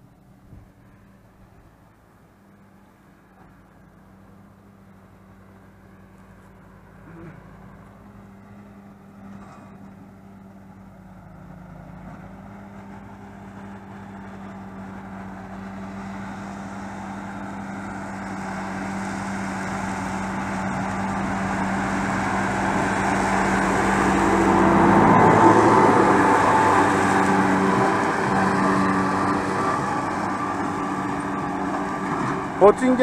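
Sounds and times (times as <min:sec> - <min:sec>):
tractor engine running: 0:00.0 - 0:33.0
mower rushing: 0:06.4 - 0:33.0.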